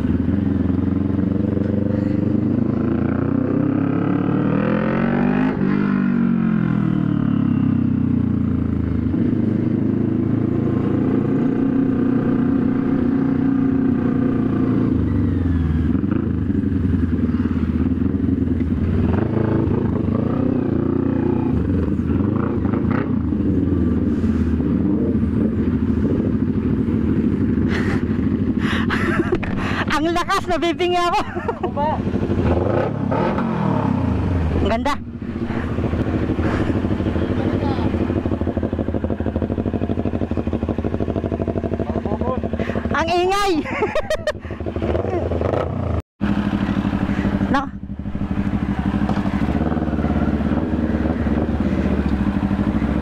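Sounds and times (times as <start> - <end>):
motorcycle engine through loud exhaust: 0.0 - 53.0.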